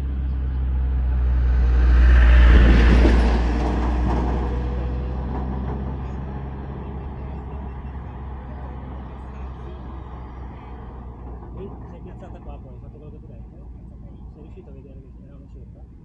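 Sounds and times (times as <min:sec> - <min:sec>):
vehicle passing close by: 0:00.0 - 0:14.3
steady low rumble: 0:00.0 - 0:16.0.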